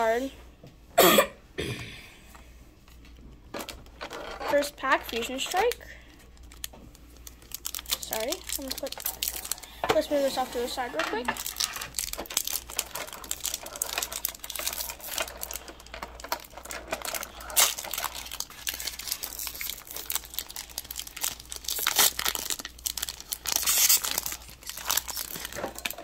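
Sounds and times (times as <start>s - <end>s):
foil pack crinkling and tearing: 4.0s - 26.0s.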